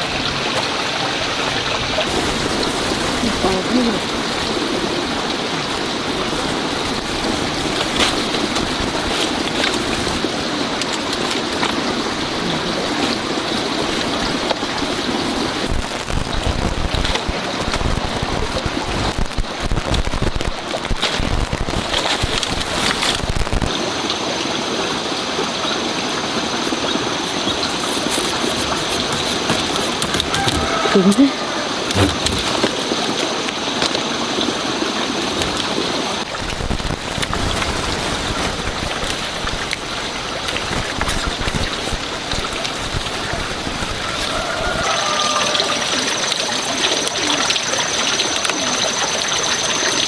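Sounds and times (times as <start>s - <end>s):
steady rain falling: 0.0s - 50.0s.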